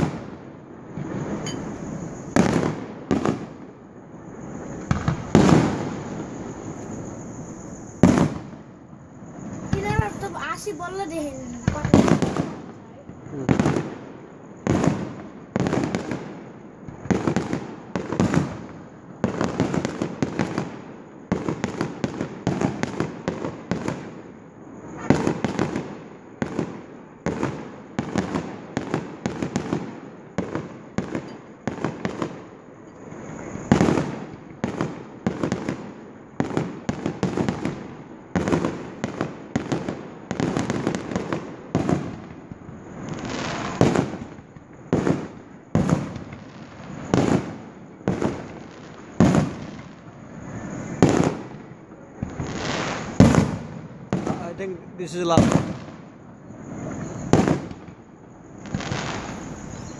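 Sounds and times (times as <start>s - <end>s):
fireworks bursting: 0.0s - 24.2s, 24.8s - 59.9s.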